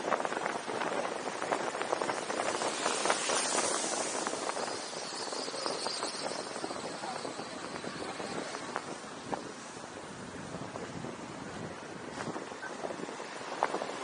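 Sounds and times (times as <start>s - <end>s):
road noise: 0.0s - 14.0s
wind noise: 0.0s - 14.0s.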